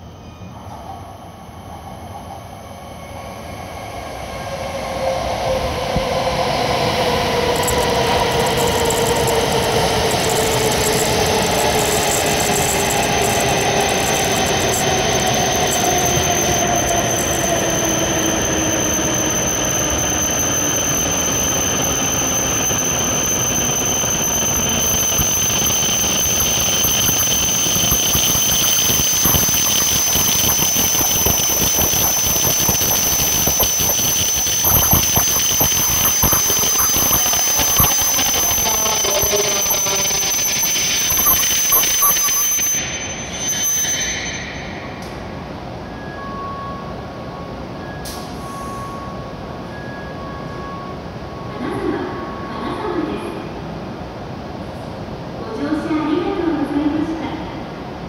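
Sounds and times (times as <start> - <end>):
train running noise: 0.0 - 46.5
high steady brake squeal: 0.0 - 51.5
falling braking whine: 0.0 - 52.7.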